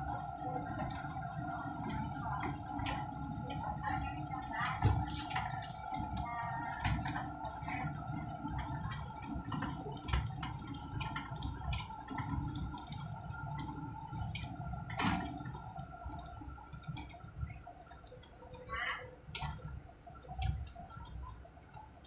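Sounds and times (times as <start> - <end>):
bus interior rumble: 0.0 - 22.0.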